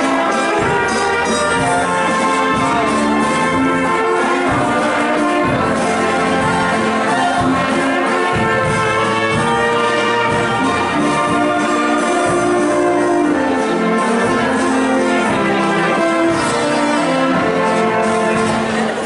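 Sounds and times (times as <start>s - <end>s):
brass band playing folk dance music: 0.0s - 19.0s.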